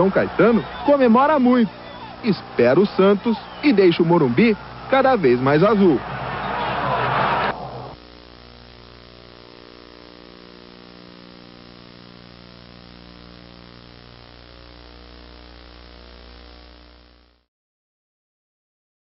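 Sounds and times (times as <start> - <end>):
electrical hum and buzz: 0.0 - 17.4.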